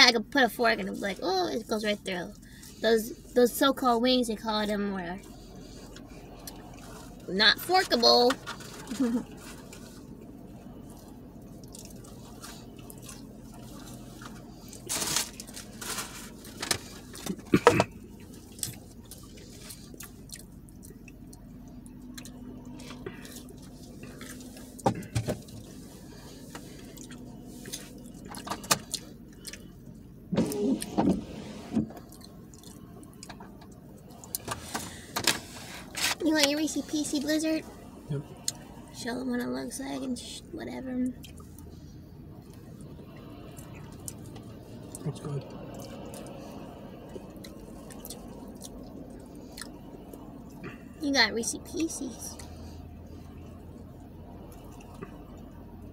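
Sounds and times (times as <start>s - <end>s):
eating and drinking: 0.8s - 30.9s, 31.8s - 35.2s, 41.1s - 55.9s.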